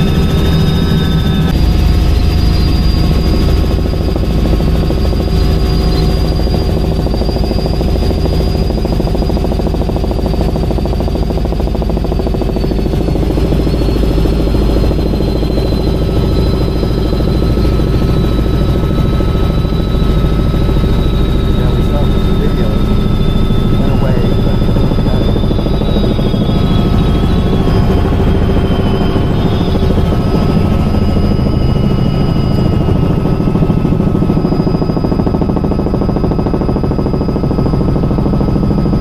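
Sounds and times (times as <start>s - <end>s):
helicopter rotor beat: 0.0s - 39.0s
turbine whine: 0.0s - 39.0s.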